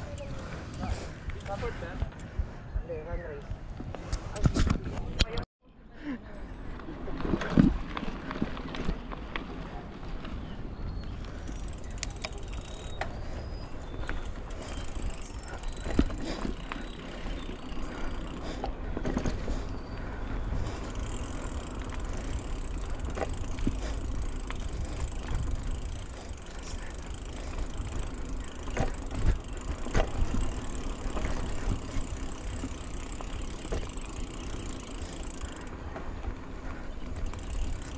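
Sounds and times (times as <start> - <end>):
bike clicks and rattles: 0.0 - 2.5, 3.4 - 5.5, 6.7 - 37.9
bike tyres rumbling on dirt: 6.6 - 37.9.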